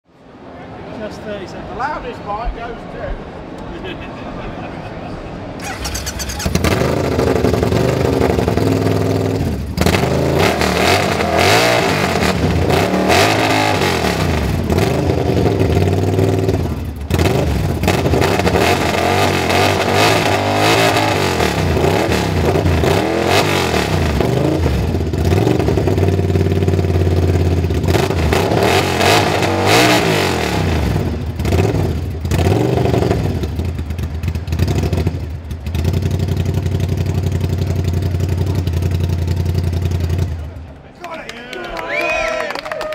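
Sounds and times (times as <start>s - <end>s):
motorcycle engine revving: 5.6s - 40.7s.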